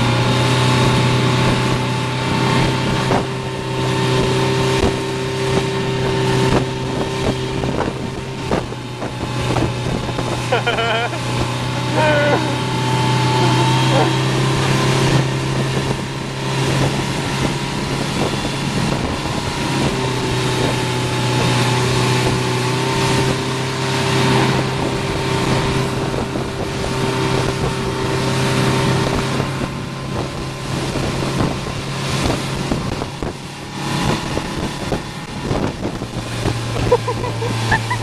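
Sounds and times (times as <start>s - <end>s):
churning wake rushing: 0.0s - 38.0s
motorboat engine running: 0.0s - 38.0s
wind buffeting microphone: 0.0s - 38.0s.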